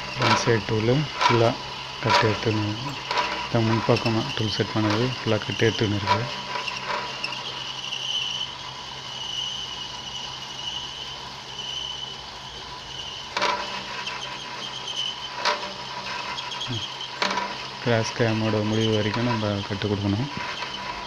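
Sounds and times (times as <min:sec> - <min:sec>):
coolant hissing and splashing: 0:00.0 - 0:21.0
lathe machine hum and whine: 0:00.0 - 0:21.0.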